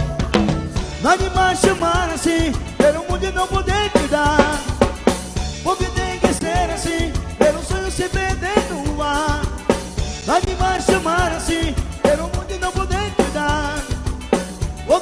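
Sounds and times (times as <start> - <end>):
drum kit with snare hits: 0.0 - 15.0
steady bass: 0.0 - 15.0
wavering melodic lead line: 0.0 - 15.0.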